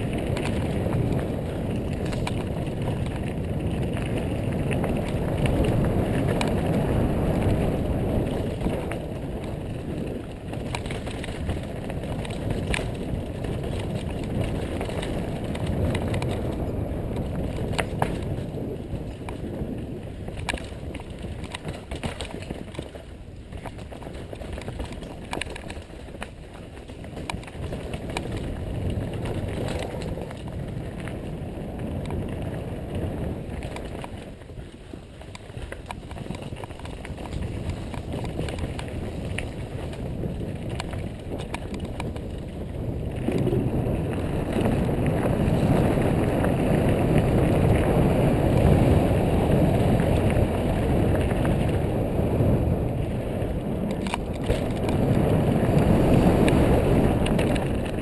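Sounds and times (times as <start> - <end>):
bike clicks and rattles: 0.0 - 58.0
bike tyres rolling on dirt: 0.0 - 58.0.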